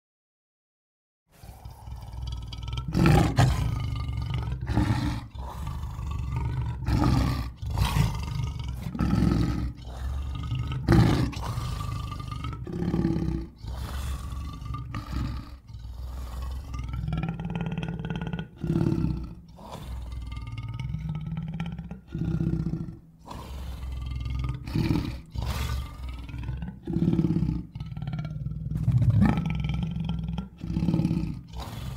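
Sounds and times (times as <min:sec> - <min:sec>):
big cat roars and growls: 0:01.3 - 0:31.9.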